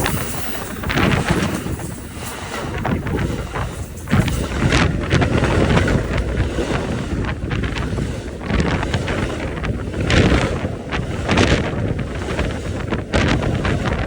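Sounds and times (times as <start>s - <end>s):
passenger train rumbling past: 0.0s - 12.3s
wind buffeting microphone: 0.0s - 14.0s.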